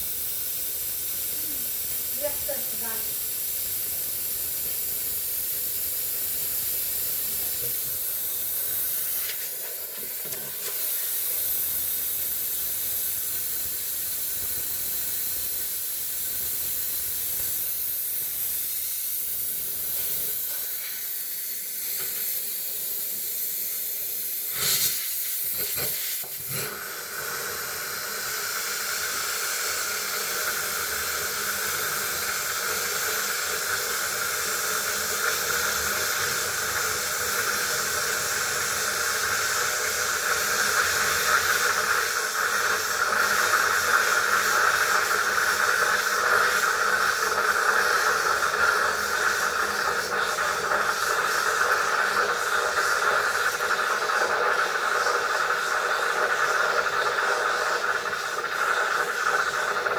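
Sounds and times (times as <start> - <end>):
steamer hissing: 0.0 - 59.9.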